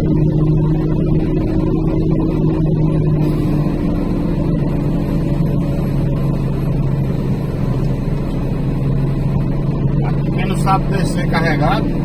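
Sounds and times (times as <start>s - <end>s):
diesel truck engine droning: 0.0s - 12.0s.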